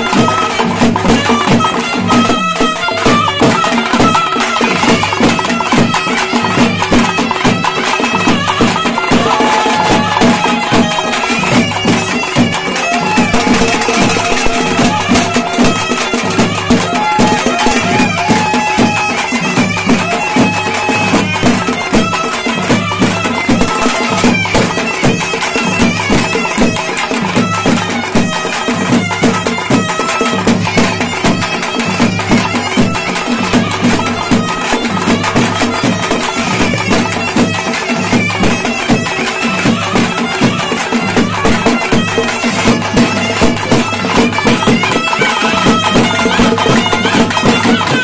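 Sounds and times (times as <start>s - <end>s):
barrel drums beating fast: 0.0s - 48.0s
reed pipe melody: 0.0s - 48.0s.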